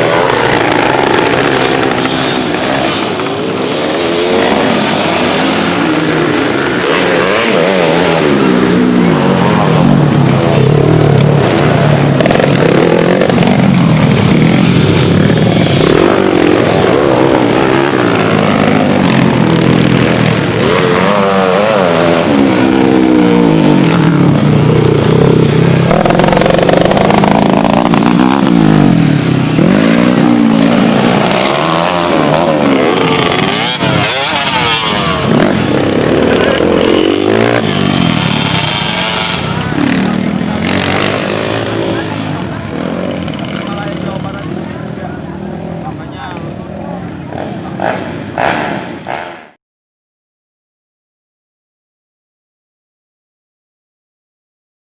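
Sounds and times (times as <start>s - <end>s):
motorcycle engines revving high: 0.0s - 49.6s.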